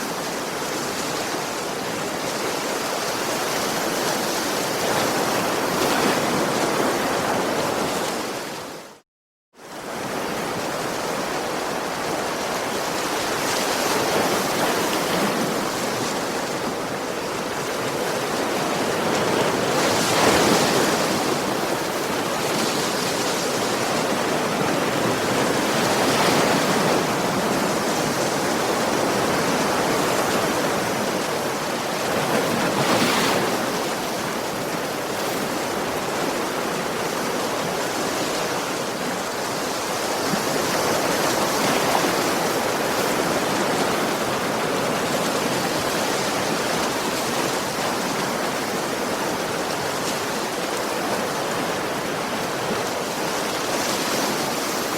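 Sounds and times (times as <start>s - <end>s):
ocean waves washing onto shore: 0.0s - 9.0s, 9.6s - 54.9s.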